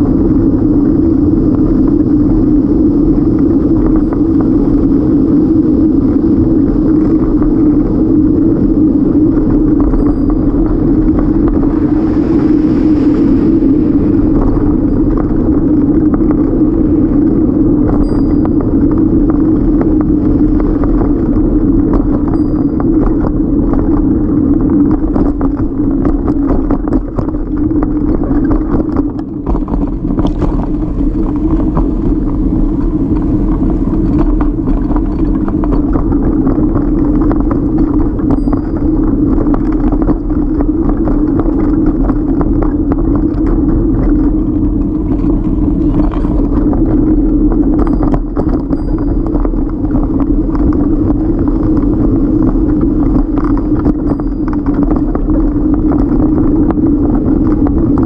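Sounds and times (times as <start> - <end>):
bike rattles and clicks: 0.0 - 58.0
bike rumbling over pavement: 0.0 - 58.0.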